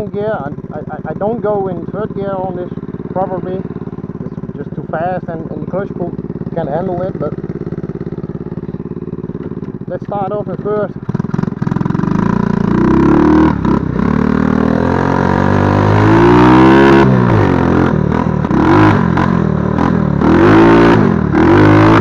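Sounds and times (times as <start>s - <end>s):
quad engine revving: 0.0s - 22.0s.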